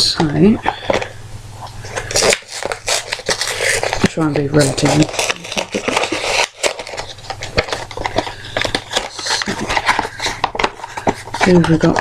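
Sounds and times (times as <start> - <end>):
packaging clicking and tearing: 1.7 - 12.0.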